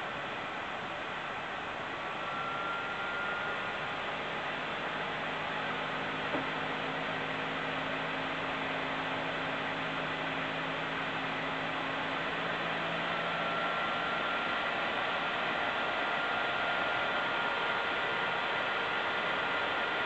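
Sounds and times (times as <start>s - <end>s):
thin fan whine: 0.0s - 20.0s
cooler fan rushing: 3.1s - 20.0s.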